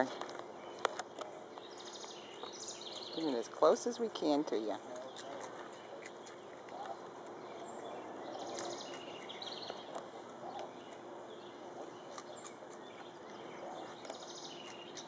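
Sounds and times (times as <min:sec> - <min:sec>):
small birds chirping trills: 0:00.0 - 0:15.0.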